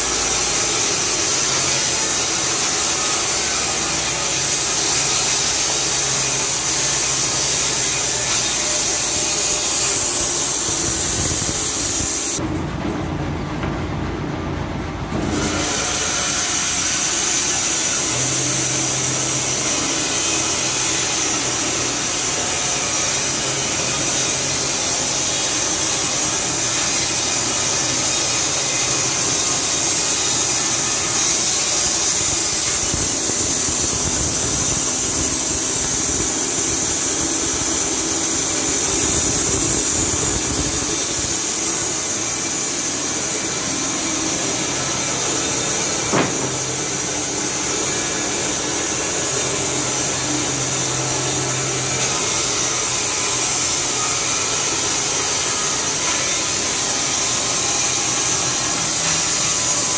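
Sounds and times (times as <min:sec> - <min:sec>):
band saw cutting log: 0:00.0 - 0:12.4, 0:15.2 - 0:59.9.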